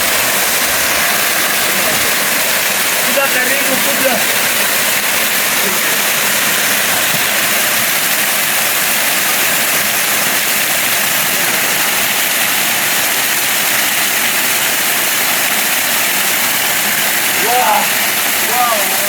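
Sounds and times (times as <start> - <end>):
waterfall crashing: 0.0 - 19.0.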